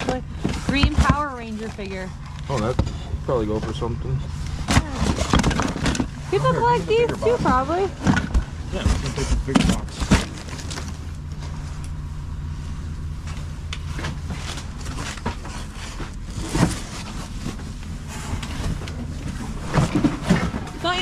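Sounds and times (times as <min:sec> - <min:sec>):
items being handled: 0:00.0 - 0:12.0, 0:13.2 - 0:21.0
low motor hum: 0:00.0 - 0:21.0.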